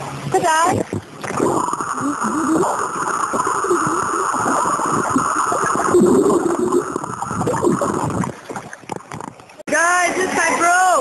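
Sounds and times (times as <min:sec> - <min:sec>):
muffled water sloshing underwater: 0:00.0 - 0:09.7.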